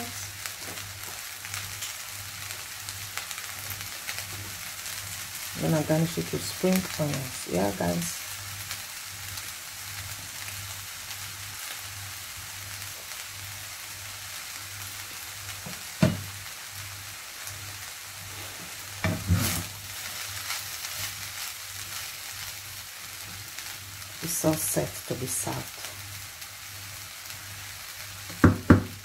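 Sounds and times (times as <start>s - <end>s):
rice sizzling in a frying pan: 0.0s - 29.0s.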